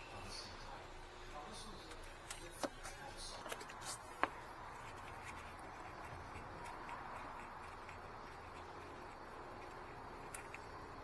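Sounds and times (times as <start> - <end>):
low steady background: 0.0 - 11.0.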